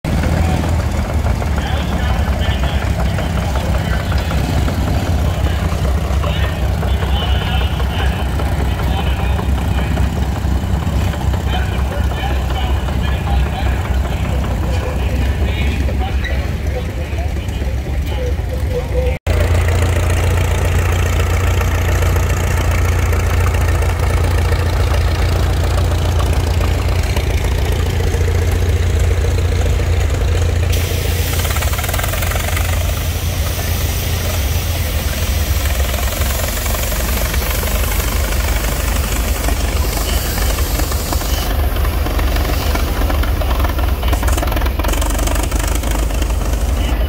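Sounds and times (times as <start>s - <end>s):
crawler tractor engines running: 0.0s - 47.0s.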